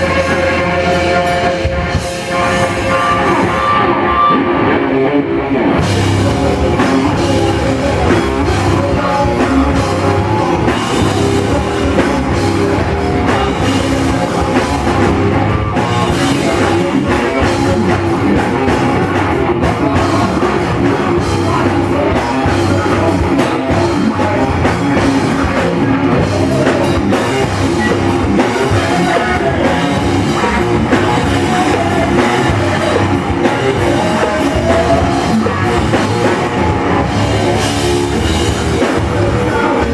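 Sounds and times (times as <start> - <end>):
loud rock music with drums: 0.0 - 39.9.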